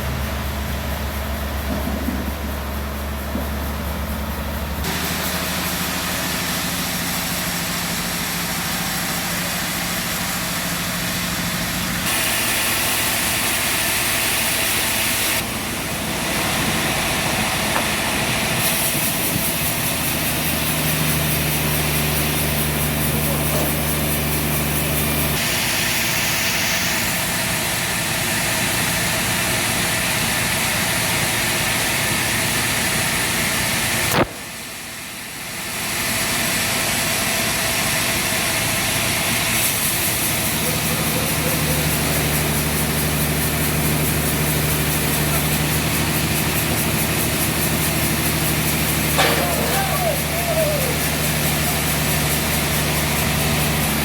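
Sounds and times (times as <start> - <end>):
saw cutting log hiss: 0.0 - 54.0
sawmill saw drone: 0.0 - 54.0.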